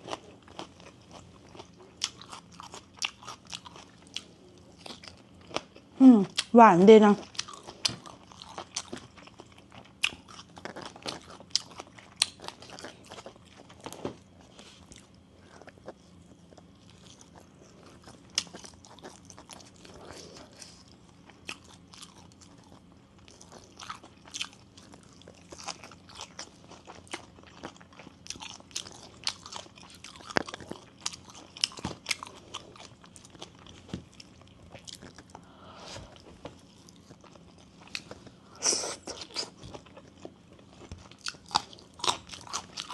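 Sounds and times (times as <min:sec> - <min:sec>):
person chewing food: 0:00.0 - 0:06.5, 0:07.2 - 0:42.9.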